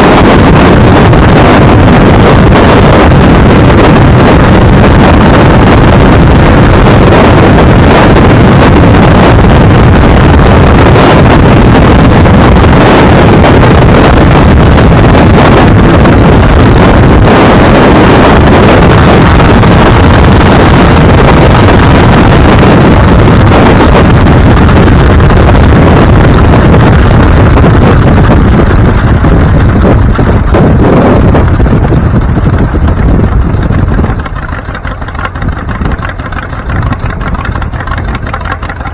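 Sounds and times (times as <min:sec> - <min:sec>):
vehicle rumble at speed: 0:00.0 - 0:38.9
wind buffeting microphone: 0:00.0 - 0:38.9.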